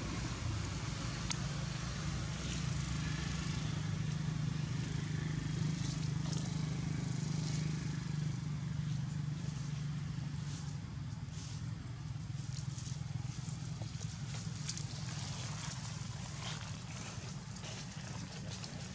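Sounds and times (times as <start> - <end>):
engine humming: 0.0 - 18.9.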